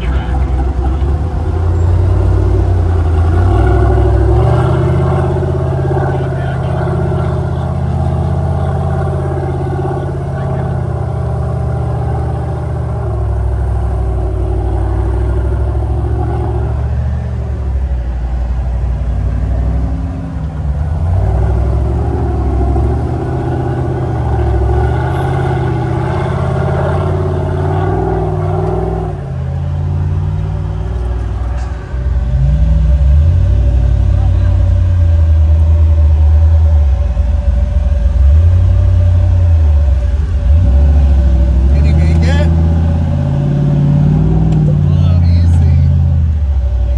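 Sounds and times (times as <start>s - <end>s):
engine revving while driving: 0.0s - 46.9s.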